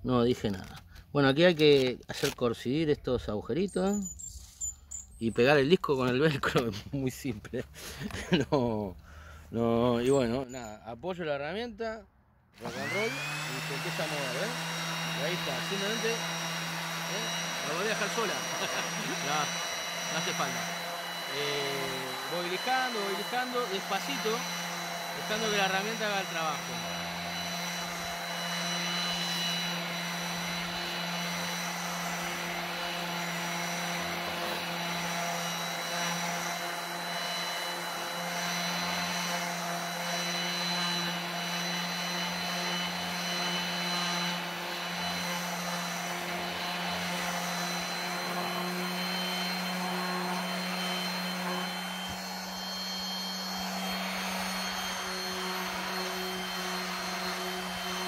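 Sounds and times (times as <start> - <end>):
orbital sander on wood: 5.2 - 10.8, 12.6 - 58.0.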